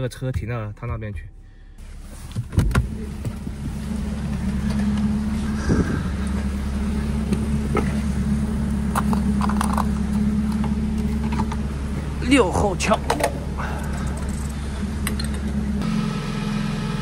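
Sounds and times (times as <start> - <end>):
truck engine running: 1.5 - 17.0.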